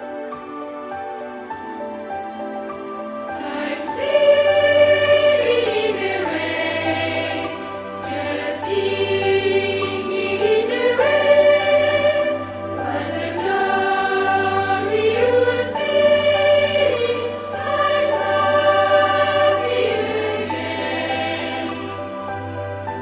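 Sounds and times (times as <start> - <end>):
boys' choir singing: 3.3 - 23.0.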